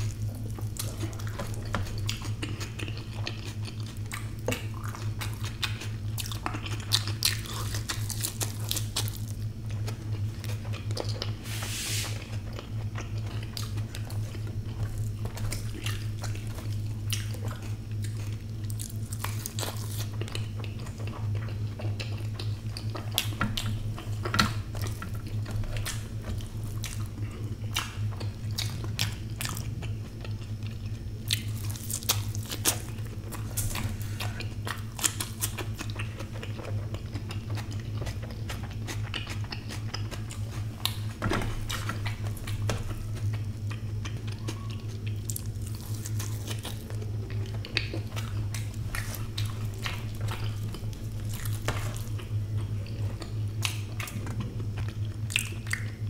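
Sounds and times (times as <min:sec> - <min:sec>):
chewing and mouth smacks: 0:00.0 - 0:11.4, 0:12.2 - 0:56.0
steady low hum: 0:00.0 - 0:56.0.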